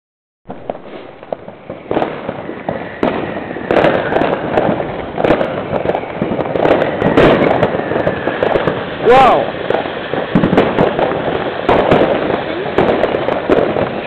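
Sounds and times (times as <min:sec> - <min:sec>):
firecracker bangs and crackling: 0:00.5 - 0:14.0
firework whistle: 0:00.5 - 0:14.0.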